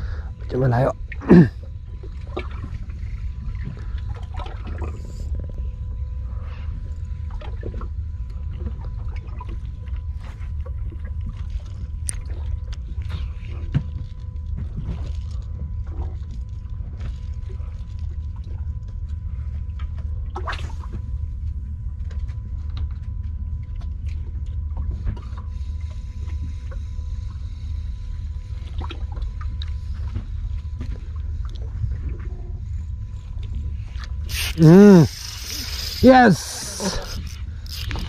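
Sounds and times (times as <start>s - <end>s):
boat engine rumble: 0.0s - 38.0s.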